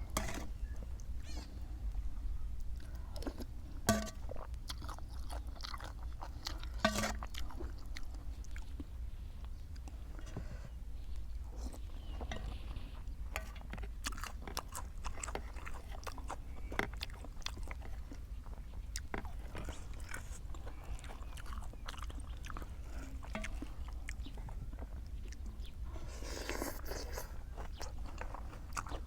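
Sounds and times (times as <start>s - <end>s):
chewing crisp food: 2.6s - 10.4s, 11.0s - 29.0s.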